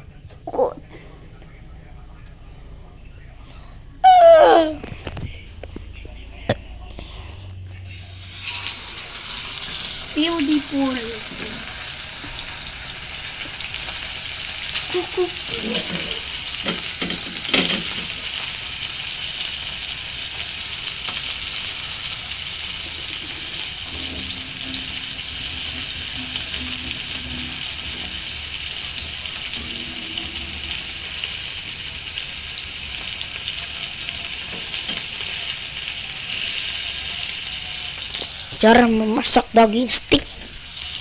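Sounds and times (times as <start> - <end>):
steak sizzling in a hot pan: 7.9 - 41.0.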